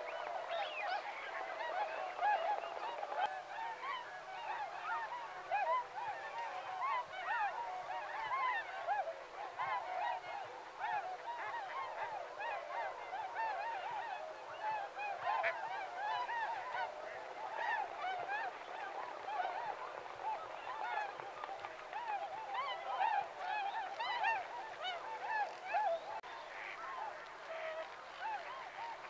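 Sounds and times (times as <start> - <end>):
waterfowl flock calling: 0.0 - 29.0.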